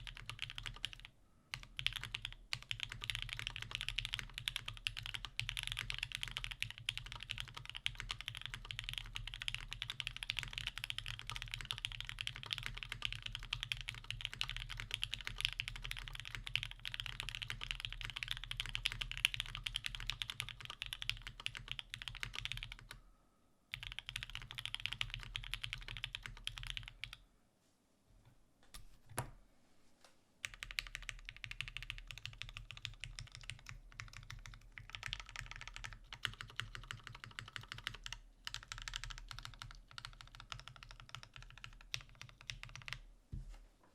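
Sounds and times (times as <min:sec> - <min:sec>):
mechanical keyboard typing: 0:00.0 - 0:23.0, 0:23.7 - 0:27.2, 0:30.4 - 0:43.0.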